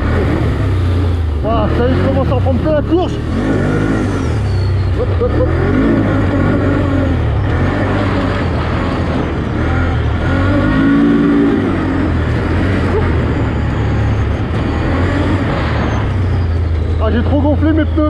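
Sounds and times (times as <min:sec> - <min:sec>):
atv engine revving: 0:00.0 - 0:18.0.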